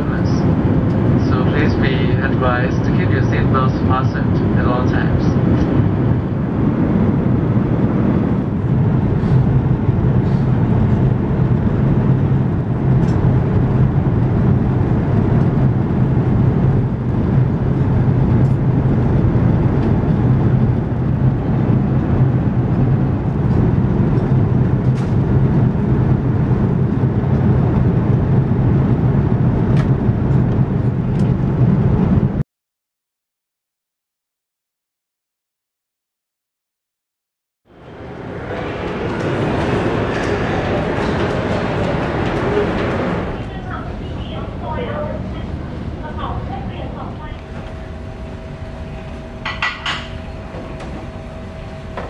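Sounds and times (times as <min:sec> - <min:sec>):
aircraft cabin drone: 0:00.0 - 0:32.4, 0:37.7 - 0:52.0.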